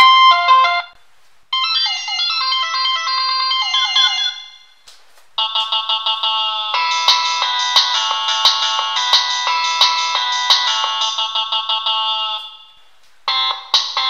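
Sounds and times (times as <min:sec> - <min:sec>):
phone ringtone melody: 0:00.0 - 0:01.0, 0:01.6 - 0:04.8, 0:05.4 - 0:14.0.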